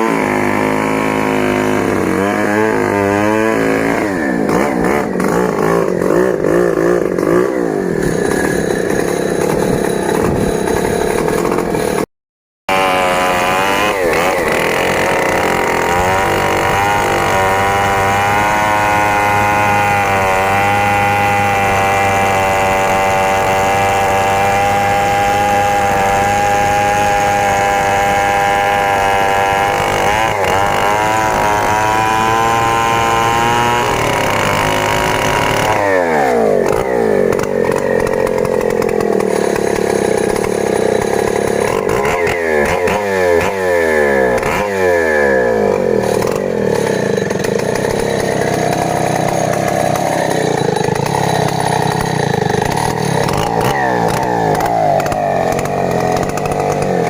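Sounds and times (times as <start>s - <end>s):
chainsaw cutting at high revs: 0.0s - 12.1s, 12.7s - 57.0s.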